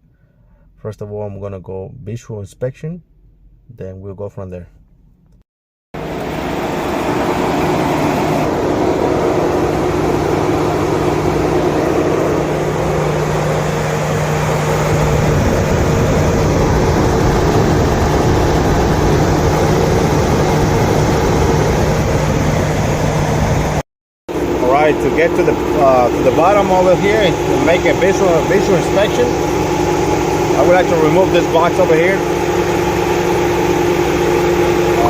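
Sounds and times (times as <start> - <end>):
electric cooling fans running: 6.0 - 35.0
low hum: 6.0 - 35.0
truck engine running: 6.0 - 35.0.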